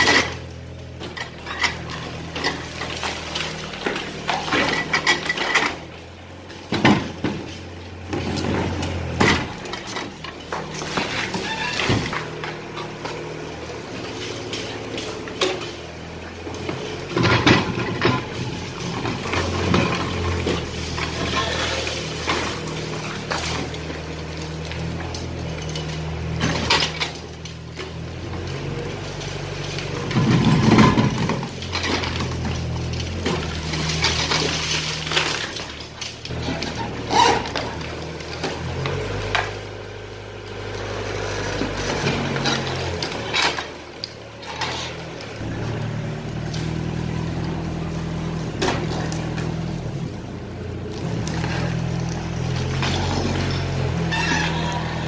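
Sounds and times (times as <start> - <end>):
concrete rubble crunching and falling: 0.0 - 55.0
excavator diesel engine: 0.0 - 55.0.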